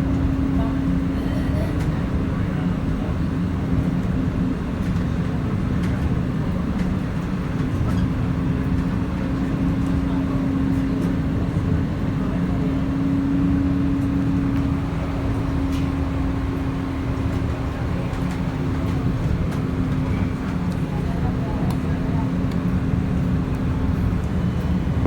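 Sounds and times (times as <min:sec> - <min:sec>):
tram rumbling along track: 0:00.0 - 0:25.0.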